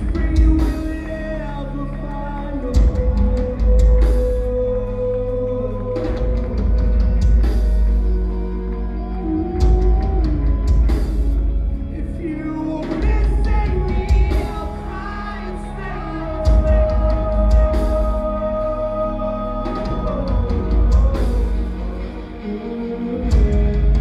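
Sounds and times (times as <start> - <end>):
sung lead vocal: 0.0 - 8.2, 11.8 - 24.0
live rock band playing: 0.0 - 24.0.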